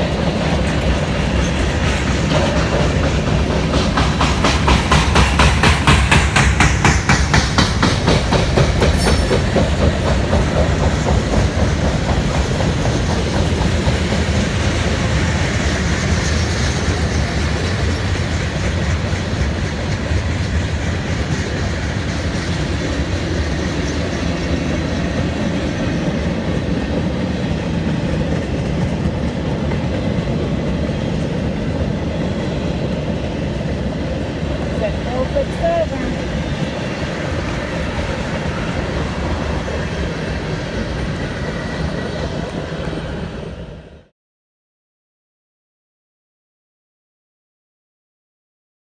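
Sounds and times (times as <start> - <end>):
train wheels clicking on rail joints: 0.0 - 43.3
freight train rumble: 0.0 - 44.1.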